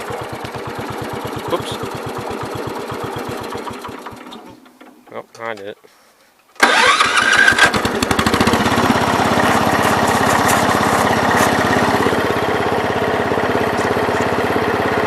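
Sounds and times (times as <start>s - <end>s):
tractor engine starting and running: 0.0s - 5.2s, 6.6s - 15.0s.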